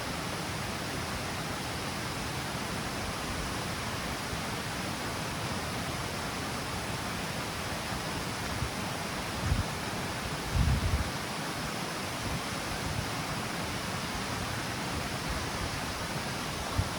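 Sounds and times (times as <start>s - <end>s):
water rushing over cascade: 0.0s - 16.9s.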